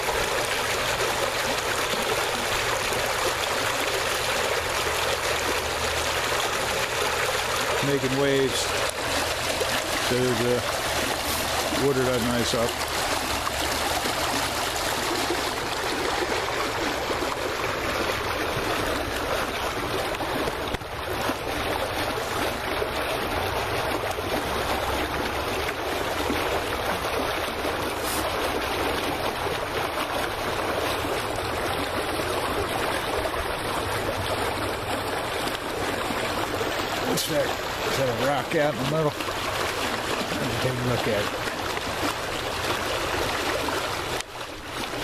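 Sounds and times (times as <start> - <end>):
water splashing and lapping: 0.0 - 45.0.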